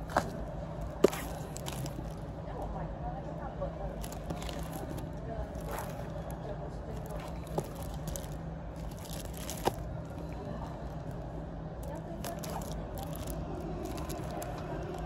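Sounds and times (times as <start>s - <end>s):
steady low hum: 0.0s - 15.0s
faint background chatter: 1.0s - 15.0s.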